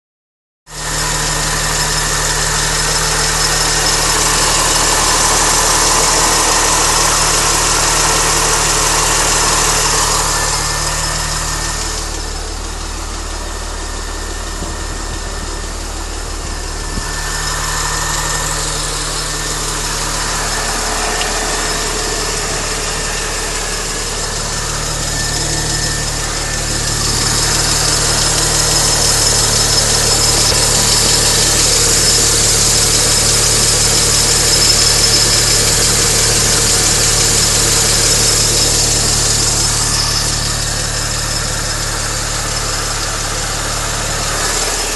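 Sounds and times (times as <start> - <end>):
car engine idling with ticking: 0.7 - 44.9.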